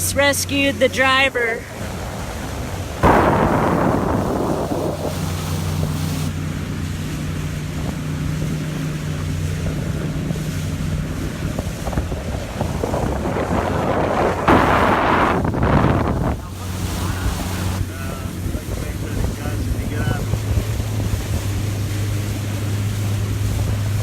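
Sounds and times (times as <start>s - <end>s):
boat engine humming: 0.0s - 24.0s
water rushing past hull: 0.0s - 24.0s
wind buffeting microphone: 1.2s - 24.0s.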